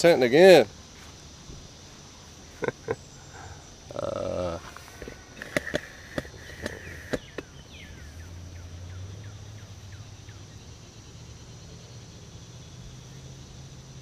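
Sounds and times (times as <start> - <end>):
high insect drone: 0.0 - 14.0
bird chirping: 1.4 - 13.9.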